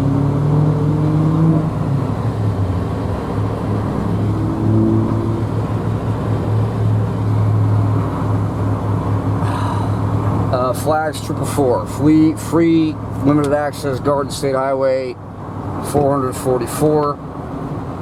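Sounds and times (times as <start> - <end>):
car engine and tyre drone: 0.0 - 18.0.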